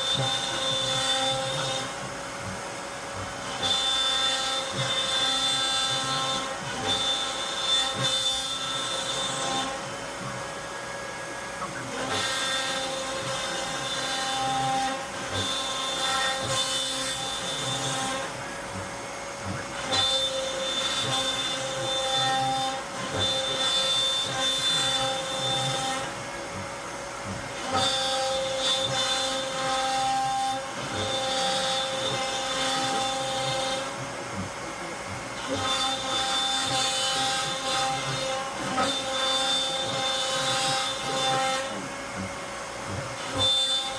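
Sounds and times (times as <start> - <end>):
router spindle whining cutting wood: 0.0 - 43.9.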